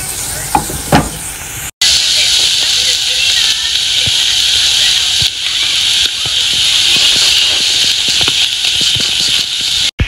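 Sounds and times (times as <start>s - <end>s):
onion sizzling in a pan: 0.0s - 10.0s.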